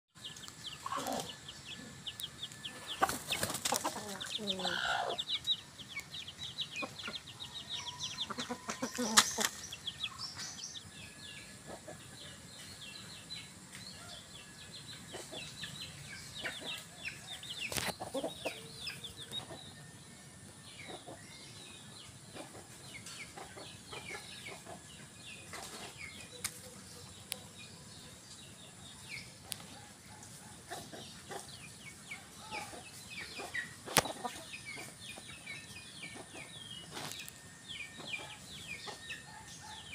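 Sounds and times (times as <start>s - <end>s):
chickens clucking: 0.2s - 39.9s.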